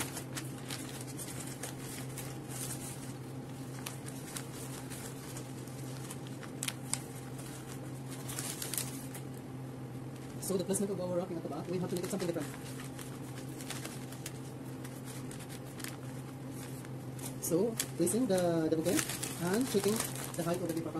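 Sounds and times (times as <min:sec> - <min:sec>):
wrapping paper rustling: 0:00.0 - 0:09.4, 0:11.5 - 0:20.9
steady low hum: 0:00.0 - 0:20.9.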